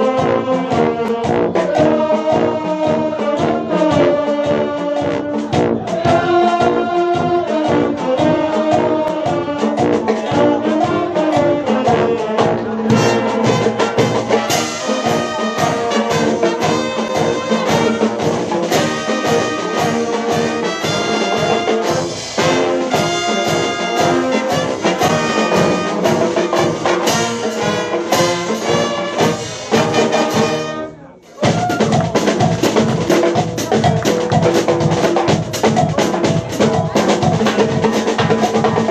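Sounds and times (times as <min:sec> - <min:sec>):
bass drum and snare beat: 0:00.0 - 0:30.8, 0:31.4 - 0:38.9
brass band playing: 0:00.0 - 0:38.9.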